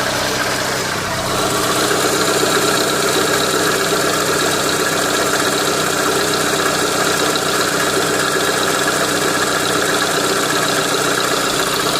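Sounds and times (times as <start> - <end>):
car engine running: 0.0 - 11.9
engine knock: 0.0 - 11.9.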